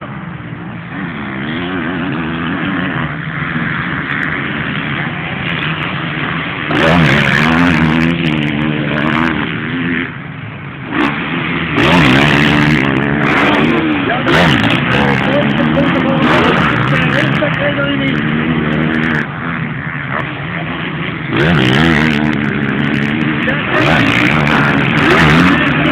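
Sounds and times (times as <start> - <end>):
motocross bike engines revving: 0.0 - 25.9.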